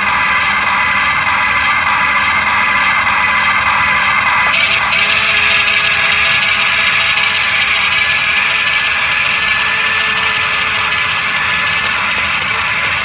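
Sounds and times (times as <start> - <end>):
model excavator whine: 0.0 - 13.0.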